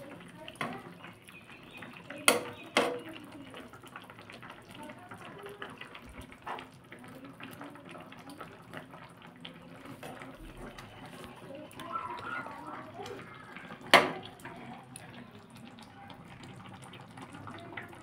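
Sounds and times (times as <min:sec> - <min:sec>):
gravy bubbling and popping: 0:00.0 - 0:18.0.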